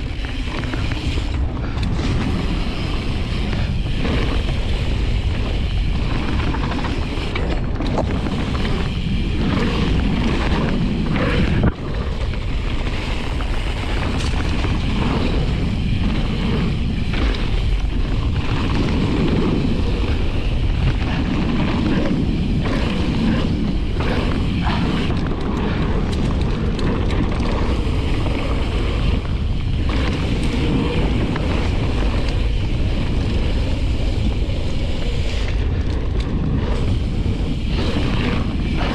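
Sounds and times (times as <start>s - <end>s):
bike tyres and frame rattling: 0.0s - 38.9s
wind on microphone: 0.0s - 38.9s.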